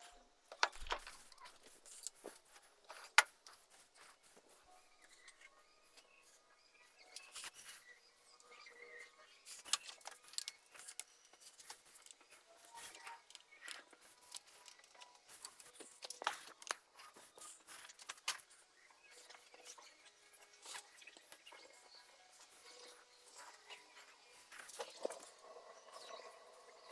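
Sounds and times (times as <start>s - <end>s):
faint clicks and handling noises: 0.0s - 6.4s, 7.0s - 25.4s.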